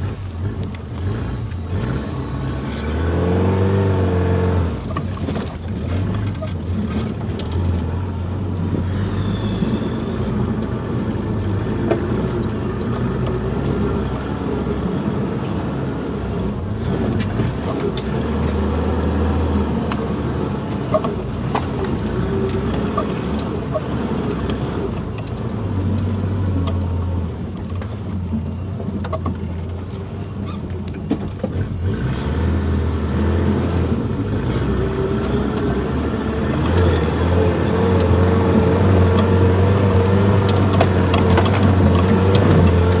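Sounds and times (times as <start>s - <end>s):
car engine running at low speed: 0.0s - 43.0s.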